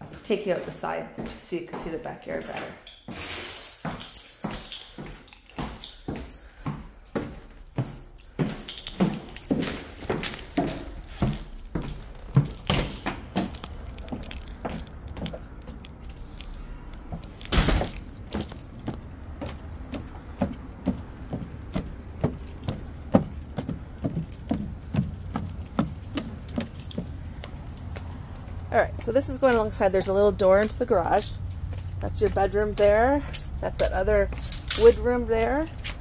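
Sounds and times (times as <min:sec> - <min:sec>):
footsteps on wooden deck: 0:00.0 - 0:02.9, 0:03.8 - 0:36.0.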